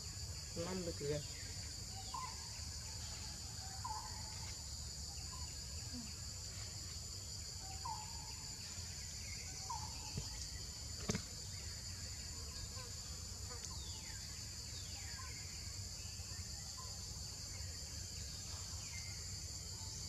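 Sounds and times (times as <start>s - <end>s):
insect chorus drone: 0.0s - 20.0s.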